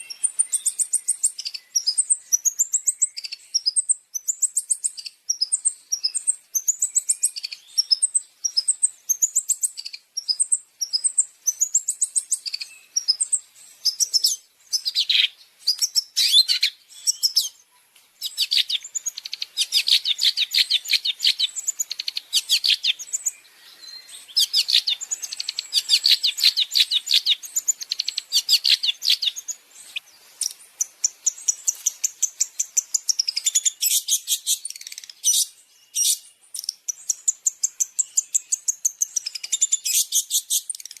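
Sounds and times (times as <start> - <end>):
bird chattering song: 0.0 - 41.0.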